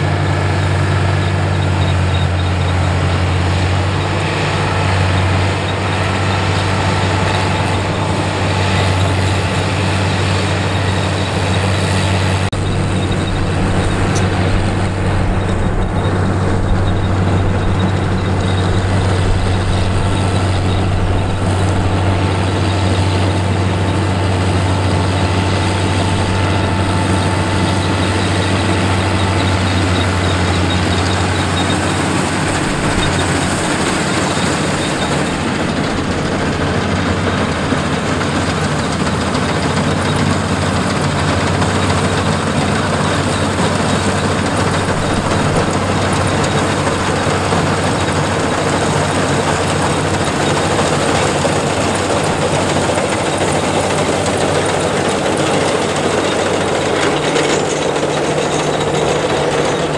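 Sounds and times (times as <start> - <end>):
combine harvester engine drone: 0.0 - 59.9
machinery rattle and whirr: 0.0 - 59.9.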